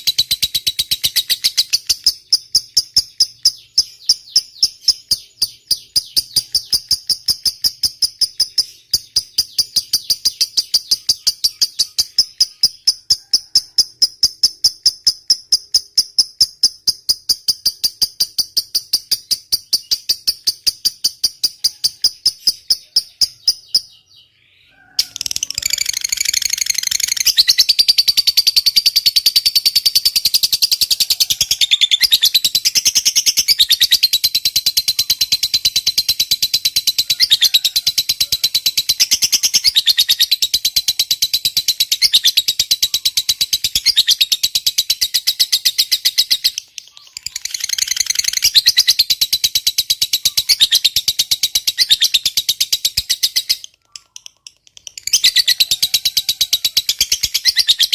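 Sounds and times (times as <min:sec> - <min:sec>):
lovebird chattering: 0:00.0 - 0:57.9.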